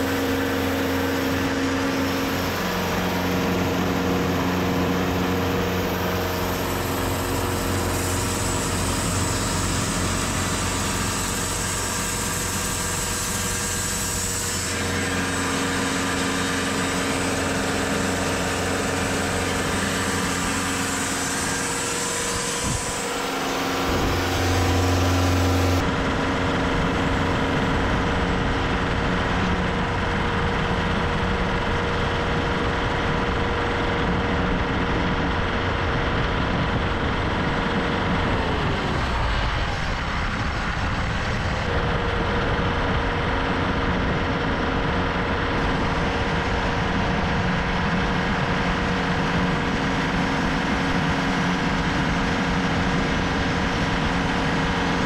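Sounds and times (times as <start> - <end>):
sawmill engine humming: 0.0 - 55.0.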